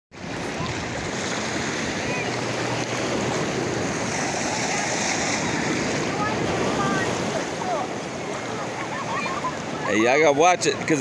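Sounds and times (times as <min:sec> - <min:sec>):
ocean surf in shallow water: 0:00.1 - 0:11.0.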